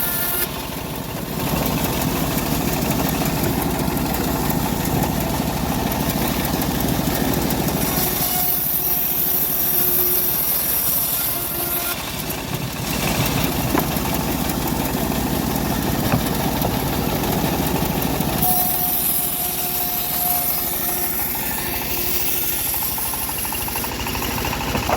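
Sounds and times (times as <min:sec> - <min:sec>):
hissing whining saw cut: 0:00.0 - 0:00.8, 0:02.4 - 0:24.9
bandsaw sawmill motor pulsing: 0:00.0 - 0:24.9.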